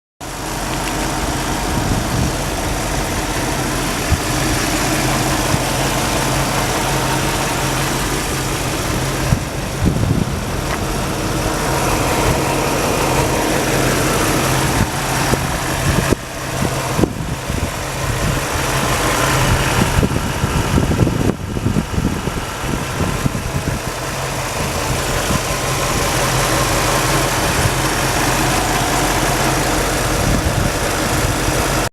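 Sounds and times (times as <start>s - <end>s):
car engine idling: 0.2s - 31.9s.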